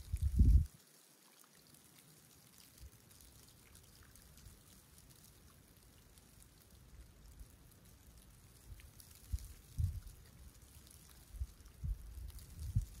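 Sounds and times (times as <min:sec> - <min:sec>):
seawater lapping at shore: 0:00.0 - 0:13.0.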